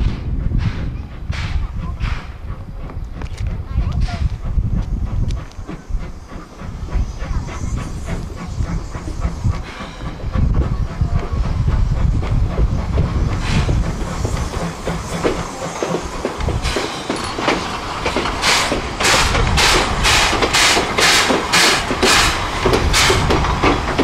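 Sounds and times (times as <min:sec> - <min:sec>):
train low rumble: 0:00.0 - 0:24.0
train wheels clicking over rail joints: 0:00.0 - 0:24.0.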